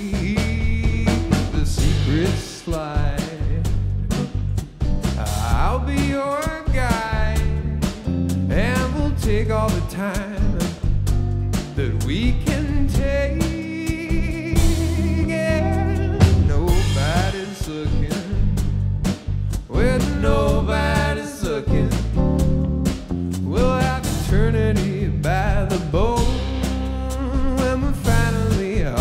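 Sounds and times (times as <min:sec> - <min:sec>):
person singing lead vocal: 0:00.0 - 0:04.5, 0:05.2 - 0:07.9, 0:08.5 - 0:10.9, 0:11.8 - 0:18.7, 0:19.6 - 0:22.4, 0:23.4 - 0:29.0
bass: 0:00.0 - 0:29.0
drum kit: 0:00.0 - 0:29.0.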